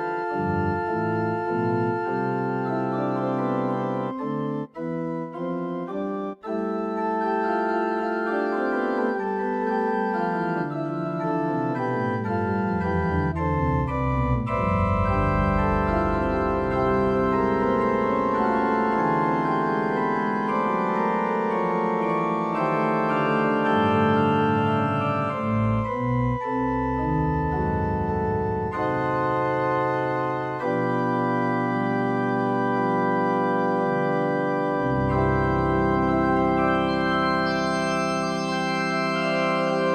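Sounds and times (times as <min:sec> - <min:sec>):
deep organ bass notes: 0:00.0 - 0:39.9
electronic organ chords: 0:00.0 - 0:39.9.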